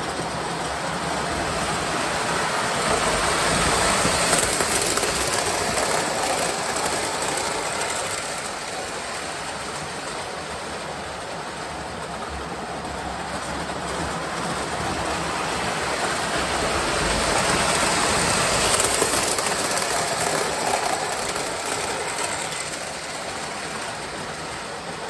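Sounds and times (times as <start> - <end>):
model train rumbling on rails: 0.0 - 25.0.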